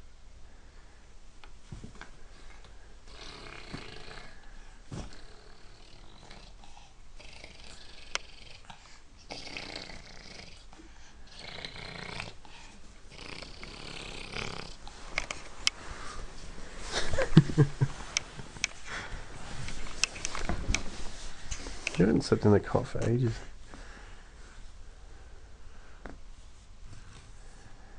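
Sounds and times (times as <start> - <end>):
rustling of nappies and clothes: 1.5 - 27.9.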